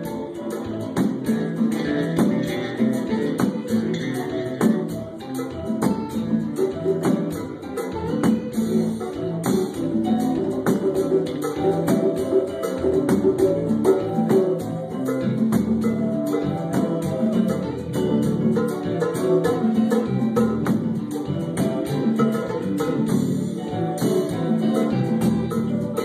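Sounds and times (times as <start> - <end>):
strummed guitar: 0.0 - 26.0.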